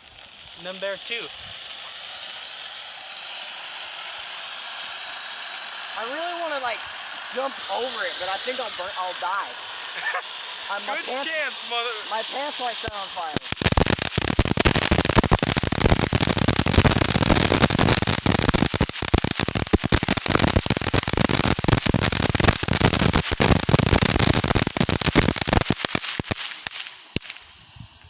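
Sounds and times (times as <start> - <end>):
firework hissing and crackling: 0.0 - 28.0.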